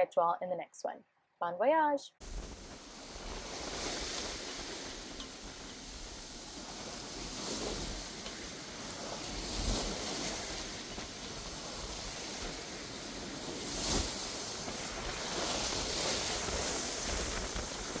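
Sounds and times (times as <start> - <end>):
water rushing along a hull: 2.4 - 18.0.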